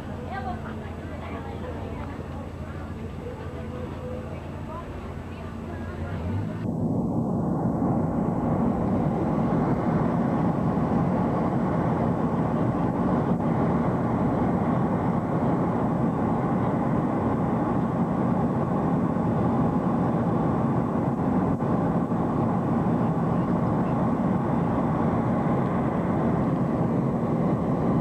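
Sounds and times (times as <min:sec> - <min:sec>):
jet cabin engine rumble: 0:00.0 - 0:28.0.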